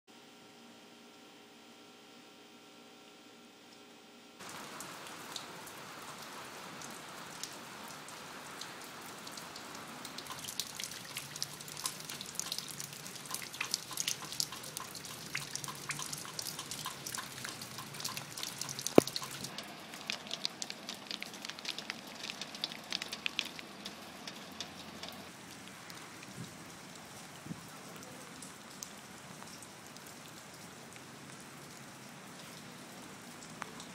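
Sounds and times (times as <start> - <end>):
rain drops on wet surfaces: 4.4 - 33.9.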